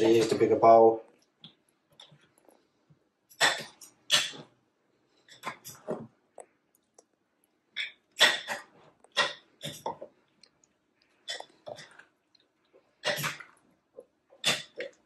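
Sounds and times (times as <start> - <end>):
wet squelches of stirring meat: 1.0 - 15.0.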